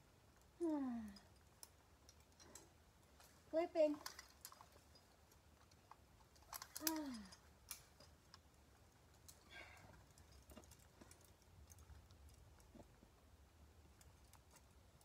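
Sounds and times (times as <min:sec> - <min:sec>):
faint clicks and rustles: 0:00.1 - 0:15.0.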